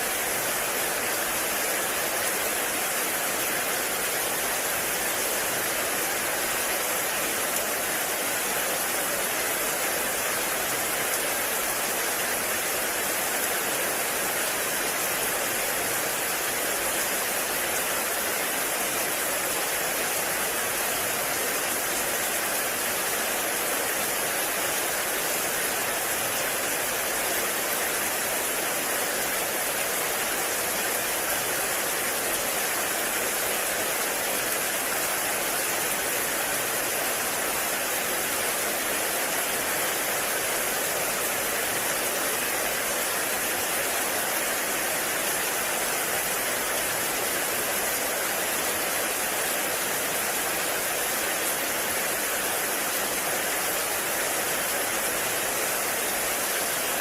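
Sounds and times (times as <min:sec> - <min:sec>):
heavy rain in forest: 0:00.0 - 0:57.0.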